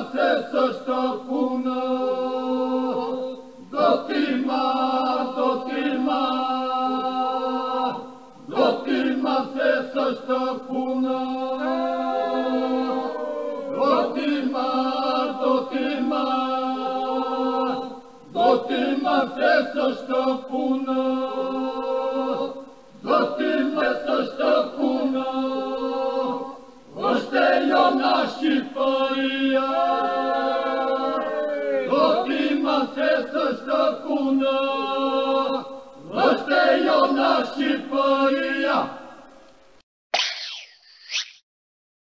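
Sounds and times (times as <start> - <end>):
choir singing chant-like phrases: 0.0 - 39.3.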